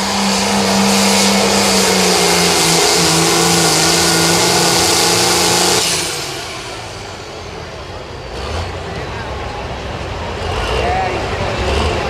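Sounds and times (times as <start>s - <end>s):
tractor engine at full throttle: 0.0s - 12.0s.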